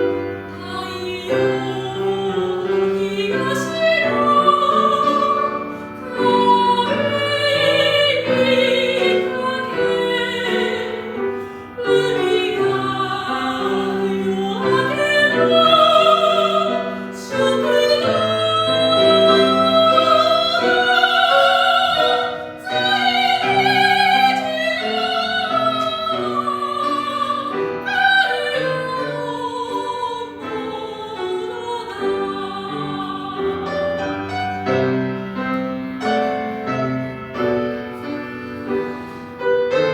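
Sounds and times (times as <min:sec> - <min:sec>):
soprano singing with vibrato: 0:00.0 - 0:34.6
piano accompaniment: 0:00.0 - 0:39.9.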